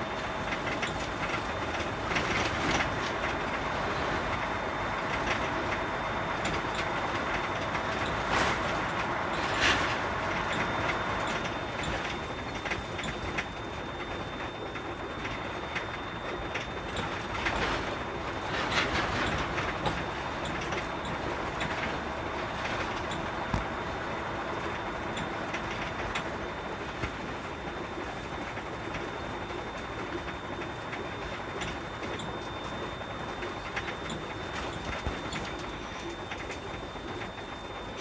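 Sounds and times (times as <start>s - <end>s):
faint high whine: 0.0s - 38.0s
truck engine and road noise: 0.0s - 38.0s.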